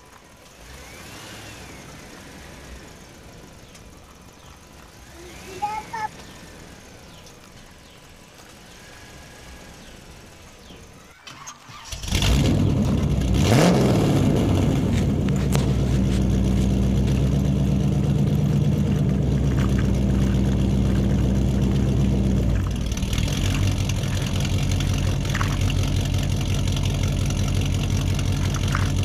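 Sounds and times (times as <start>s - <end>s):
vehicle engine starting and idling: 0.0s - 29.0s.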